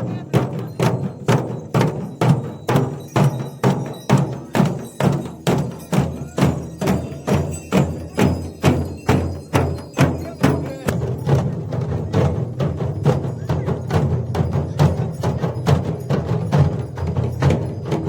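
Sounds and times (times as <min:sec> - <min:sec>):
drum beaten in steady rhythm: 0:00.0 - 0:18.0.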